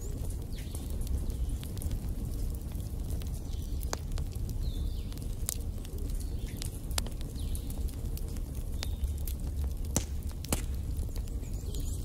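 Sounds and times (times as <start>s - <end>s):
fire flames rumbling: 0.0s - 12.0s
fire sharp pops: 0.0s - 12.0s.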